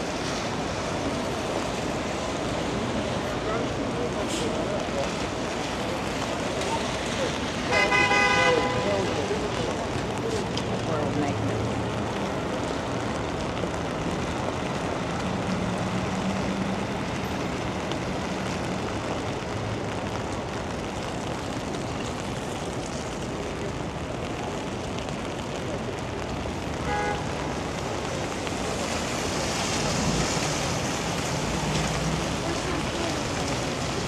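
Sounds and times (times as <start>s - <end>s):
rain hissing: 0.0s - 8.0s, 8.8s - 34.0s
traffic on wet pavement: 0.0s - 34.0s
vehicle passing on wet road: 0.0s - 34.0s.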